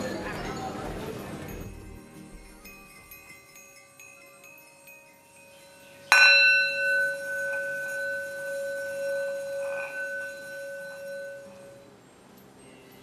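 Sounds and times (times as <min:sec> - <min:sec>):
bell ringing: 0:00.0 - 0:13.0.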